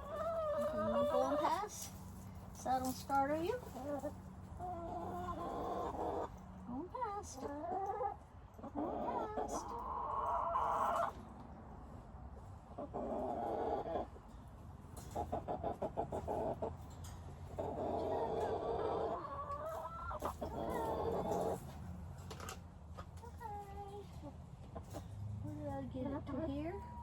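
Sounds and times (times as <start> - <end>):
hen clucking: 0.0 - 11.2, 12.7 - 14.2, 15.2 - 16.8, 17.4 - 25.0.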